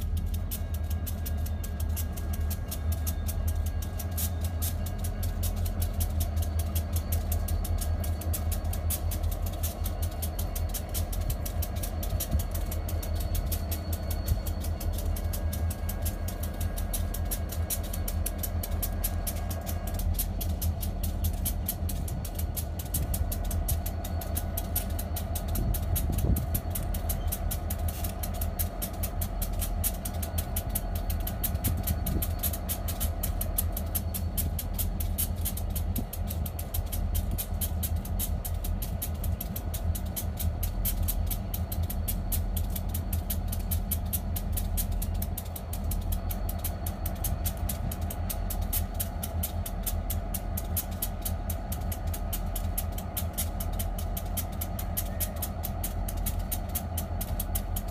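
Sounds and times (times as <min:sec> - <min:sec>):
diesel locomotive engine rumble: 0:00.0 - 0:57.9.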